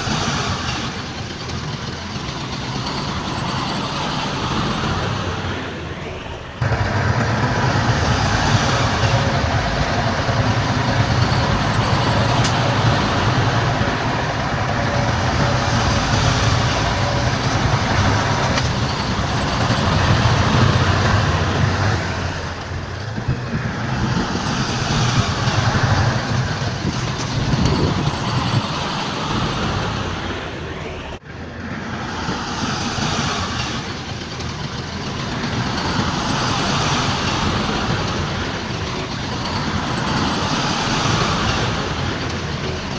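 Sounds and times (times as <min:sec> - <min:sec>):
heavy diesel machinery rumble: 0:00.0 - 0:42.9.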